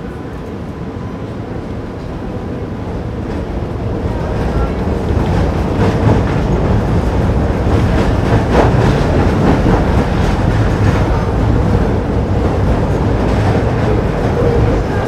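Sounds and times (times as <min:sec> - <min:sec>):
tram wheels rumbling on rails: 0:00.0 - 0:15.0
tram body rattling: 0:01.2 - 0:15.0.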